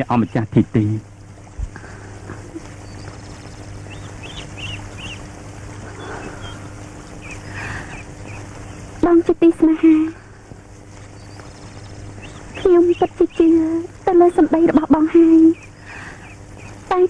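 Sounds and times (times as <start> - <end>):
birds chirping: 0.0 - 17.0
steady low hum and hiss: 0.0 - 17.0.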